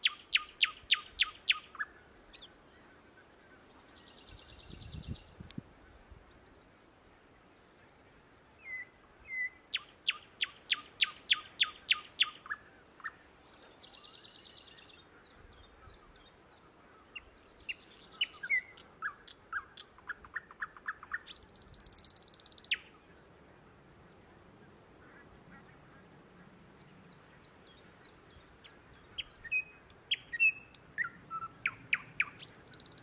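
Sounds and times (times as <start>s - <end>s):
nightingale singing: 0.0s - 5.4s, 8.6s - 23.0s, 26.4s - 33.0s.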